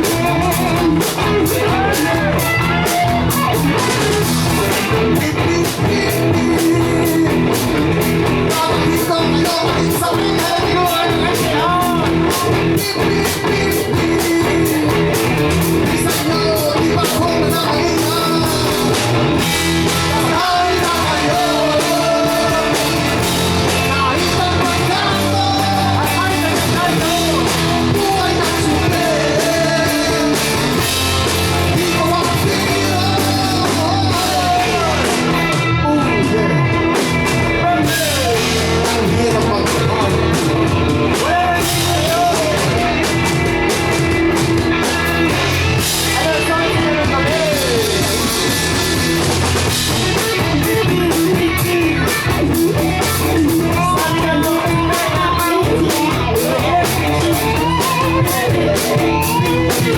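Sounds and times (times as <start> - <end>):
rock song with singer and guitar: 0.0 - 59.9.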